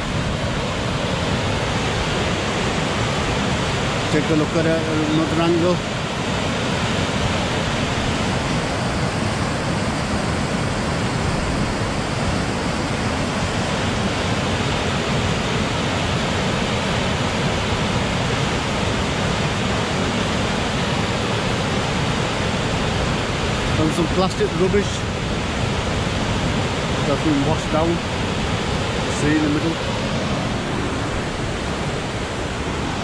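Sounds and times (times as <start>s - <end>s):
water rushing over weir: 0.0s - 33.0s.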